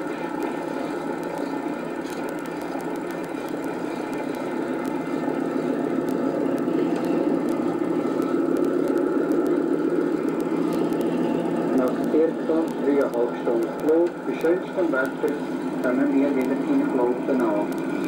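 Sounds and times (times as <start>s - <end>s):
aircraft engines droning: 0.0s - 18.0s
light crackling clicks: 0.1s - 18.0s.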